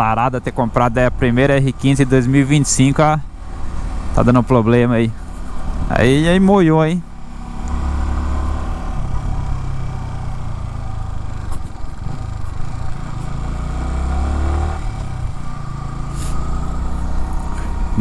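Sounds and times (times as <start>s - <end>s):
engine ticking: 0.0s - 18.0s
motorcycle engine running: 0.0s - 18.0s.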